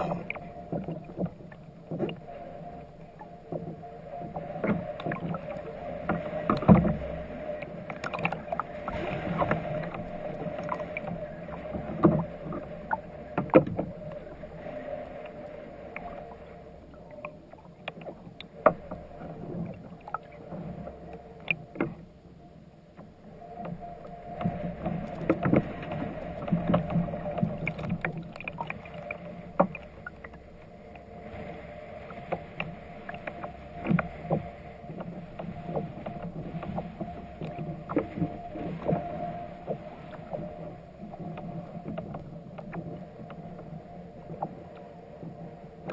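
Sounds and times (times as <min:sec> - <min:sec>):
knocks and clicks from boat: 0:00.0 - 0:14.6, 0:15.2 - 0:45.9
water sloshing against kayak hull: 0:00.0 - 0:22.1, 0:22.9 - 0:45.9
low hum: 0:00.0 - 0:45.9.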